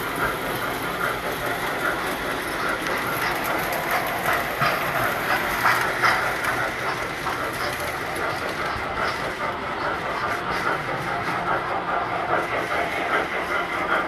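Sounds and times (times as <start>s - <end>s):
toy trains rattling on metal track: 0.0s - 14.0s.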